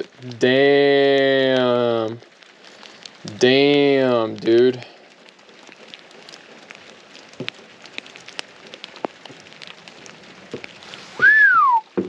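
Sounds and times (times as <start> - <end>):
rain on a vehicle roof: 0.0 - 12.0
sharp raindrop ticks: 0.0 - 12.0.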